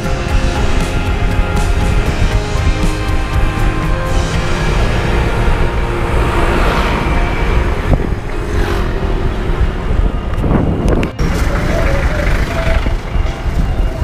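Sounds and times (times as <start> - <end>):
cars passing: 0.0 - 14.0
motorcycles passing: 0.0 - 14.0
wind noise on microphone: 0.0 - 14.0.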